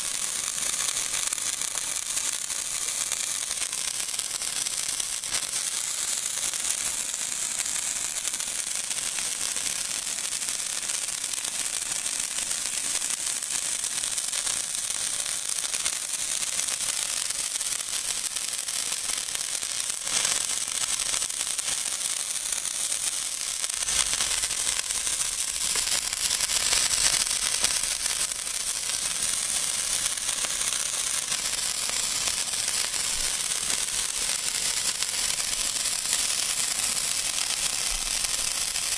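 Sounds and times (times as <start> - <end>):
sparklers hissing and crackling: 0.0 - 38.9.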